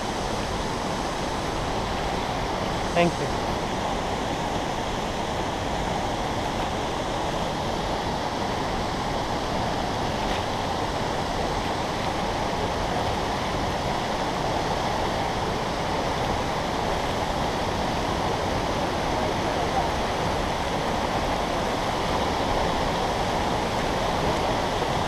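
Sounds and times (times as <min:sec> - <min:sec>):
waterfall and rapids roaring: 0:00.0 - 0:25.0.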